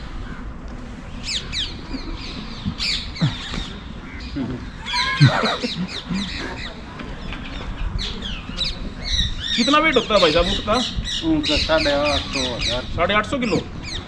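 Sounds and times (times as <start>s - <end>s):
birds squawking and chirping: 0.0s - 14.0s.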